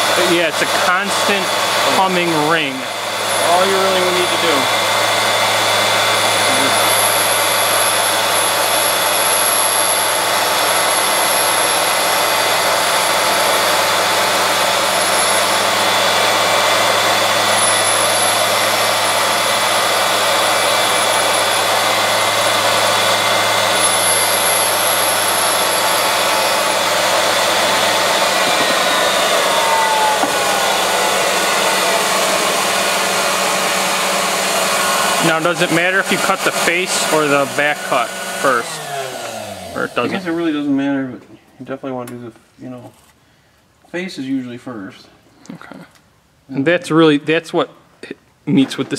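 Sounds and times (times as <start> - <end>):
grinder wheel grinding valve: 0.0 - 40.6.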